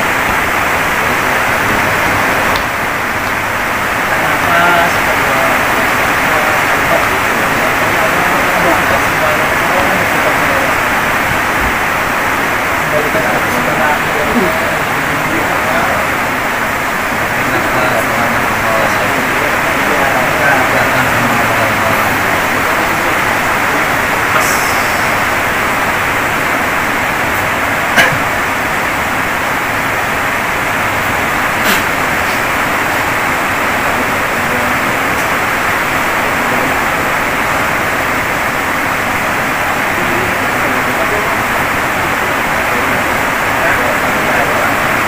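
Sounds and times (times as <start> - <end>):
loud steady hiss: 0.0 - 45.0
steady loud rushing noise: 0.0 - 45.0.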